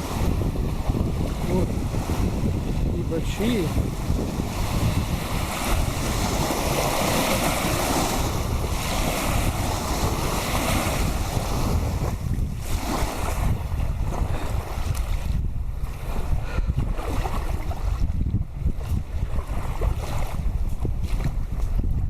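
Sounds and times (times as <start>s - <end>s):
waves washing onto riverbank: 0.0s - 22.0s
wind buffeting microphone: 0.0s - 22.0s.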